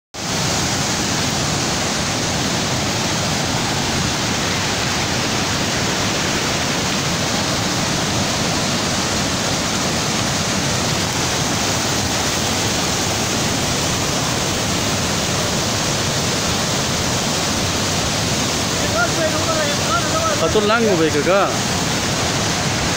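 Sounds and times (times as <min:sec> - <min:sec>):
river water rushing: 0:00.2 - 0:22.9.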